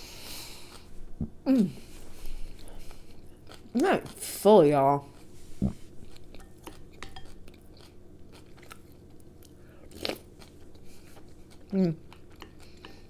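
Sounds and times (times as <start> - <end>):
person chewing food: 0.0 - 4.3, 5.1 - 13.0.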